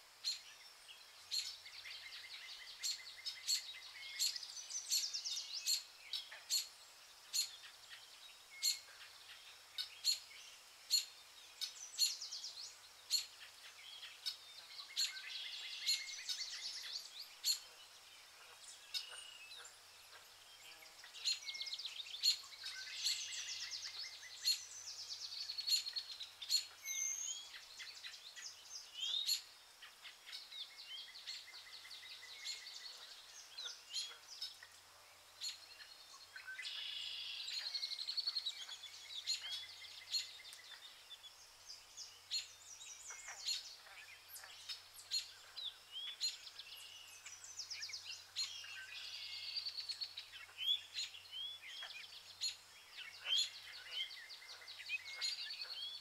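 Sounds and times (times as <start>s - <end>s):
birds chirping and trilling: 0.1s - 56.0s.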